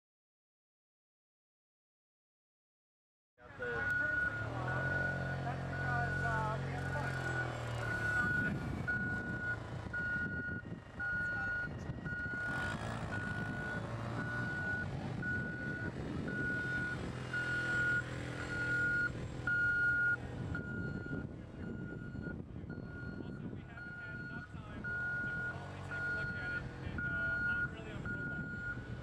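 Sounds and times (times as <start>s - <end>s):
vehicle engine hum: 3.4s - 29.0s.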